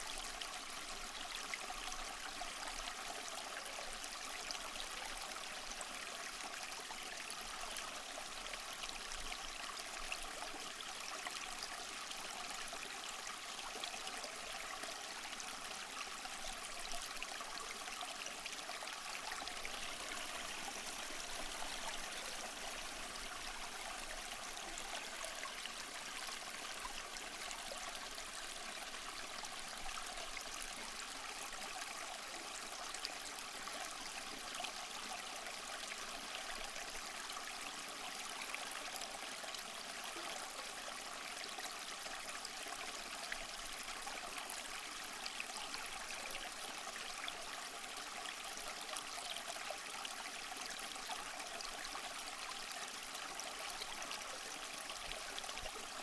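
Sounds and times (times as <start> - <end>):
small waterfall over rocks: 0.0 - 56.0.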